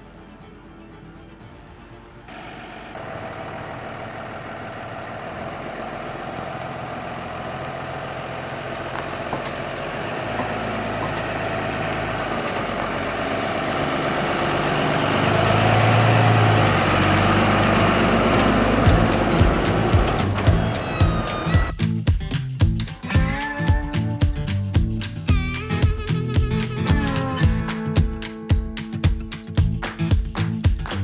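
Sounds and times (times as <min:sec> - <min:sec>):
road noise: 0:00.0 - 0:28.5
pickup truck engine: 0:02.3 - 0:28.3.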